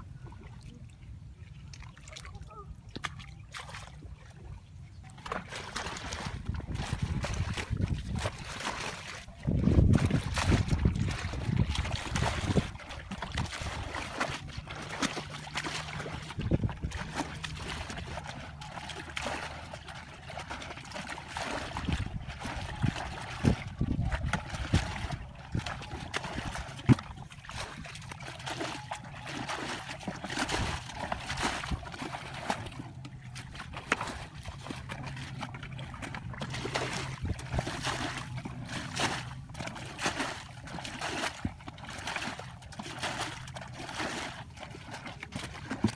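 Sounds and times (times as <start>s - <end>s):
muddy water sloshing and splashing: 0.0s - 45.9s.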